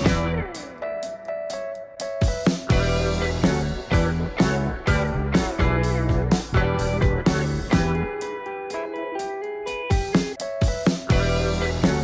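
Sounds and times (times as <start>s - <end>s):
guitar-led rock music: 0.0s - 12.0s.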